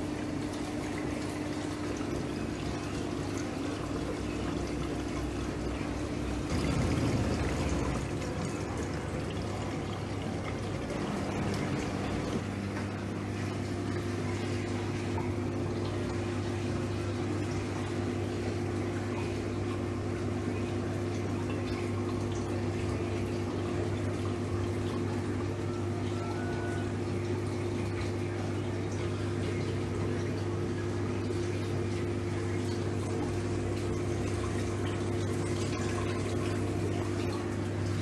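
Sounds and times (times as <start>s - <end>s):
aquarium water rushing: 0.0s - 38.0s
pump hum: 0.0s - 38.0s.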